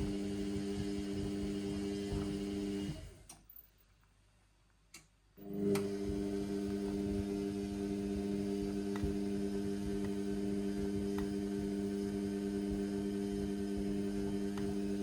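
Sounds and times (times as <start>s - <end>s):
washing machine humming: 0.0s - 3.3s, 5.4s - 15.0s.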